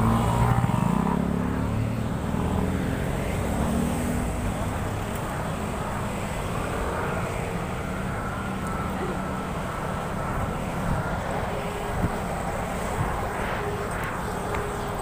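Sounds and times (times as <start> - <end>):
passing vehicles engine rumble: 0.0 - 15.0.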